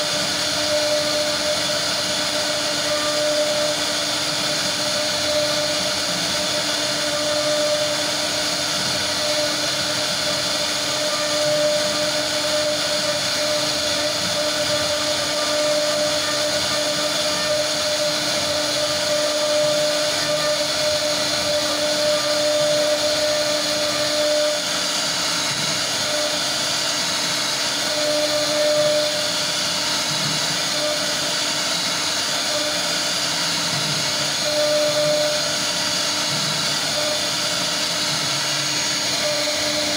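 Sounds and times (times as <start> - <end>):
bit milling wood hiss: 0.0 - 39.9
router spindle whining: 0.0 - 39.9.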